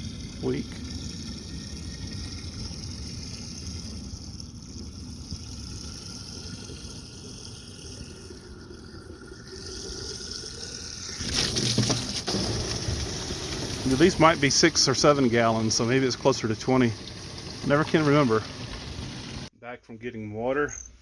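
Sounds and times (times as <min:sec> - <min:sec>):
water running into a jug: 0:00.0 - 0:19.5.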